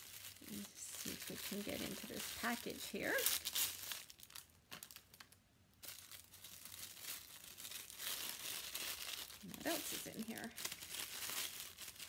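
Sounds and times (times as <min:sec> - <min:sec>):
package crinkling and rustling: 0:00.0 - 0:12.0.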